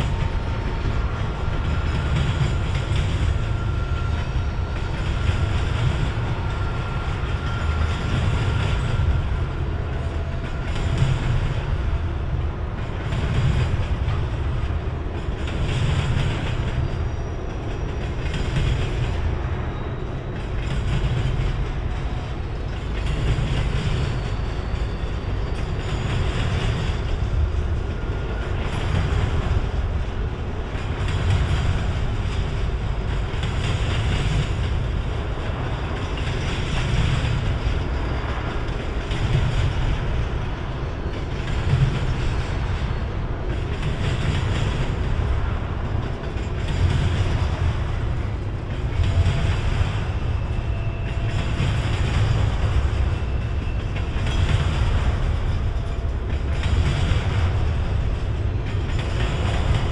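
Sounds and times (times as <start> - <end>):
train wheels clattering: 0.0 - 59.9
train wheels rumbling on rail: 0.0 - 59.9.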